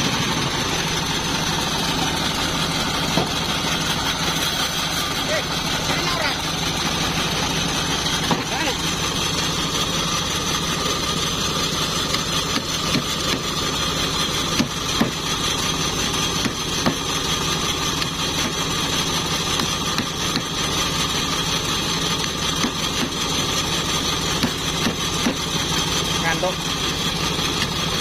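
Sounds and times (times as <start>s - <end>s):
bandsaw sawmill cutting wood: 0.0s - 28.0s.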